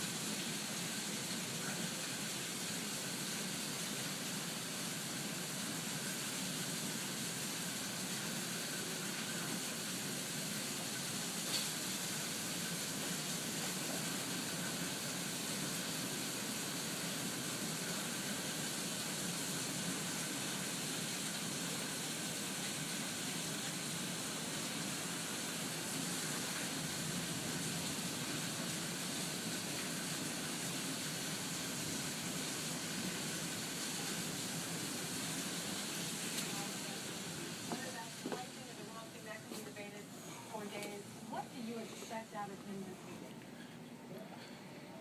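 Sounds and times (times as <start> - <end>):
rainwater running and pouring: 0.0 - 40.0.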